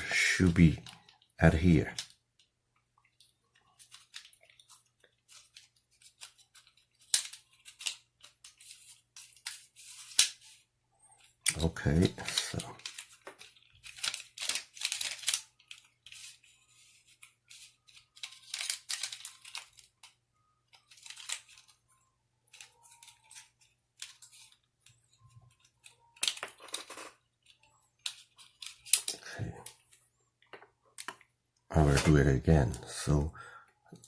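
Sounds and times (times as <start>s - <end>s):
plastic parts clicking and scraping: 0.4s - 10.6s, 11.2s - 21.9s, 22.5s - 32.8s.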